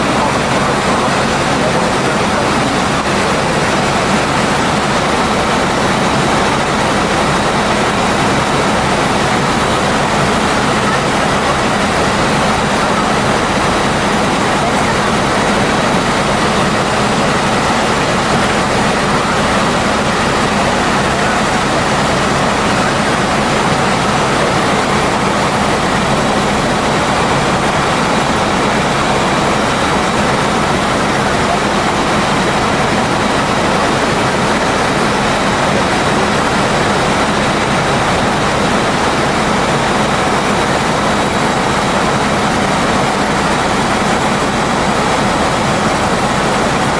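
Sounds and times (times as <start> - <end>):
helicopter engine and rotor noise: 0.0 - 46.9.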